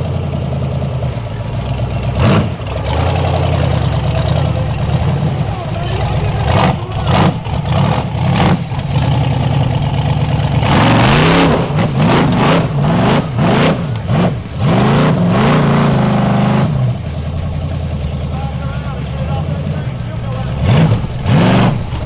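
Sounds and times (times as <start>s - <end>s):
engine revving hard: 1.5s - 22.0s.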